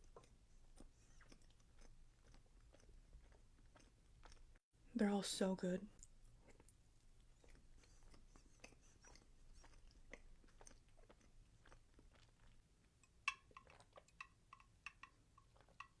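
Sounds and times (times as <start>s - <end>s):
wet chewing mouth sounds: 0.0s - 4.6s, 6.0s - 16.0s.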